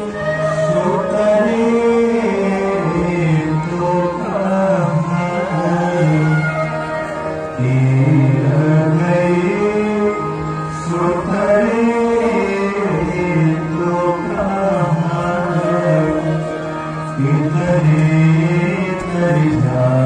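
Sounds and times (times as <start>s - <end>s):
instrumental accompaniment: 0.0s - 20.0s
person singing devotional melody: 0.0s - 20.0s.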